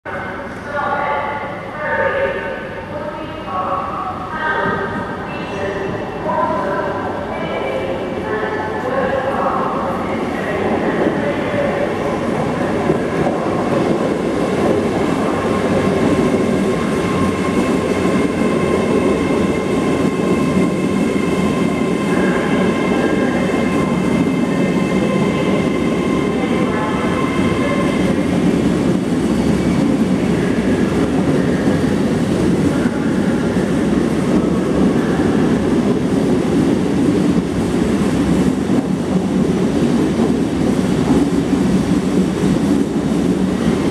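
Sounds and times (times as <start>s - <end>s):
train wheels rumbling: 3.9s - 43.9s.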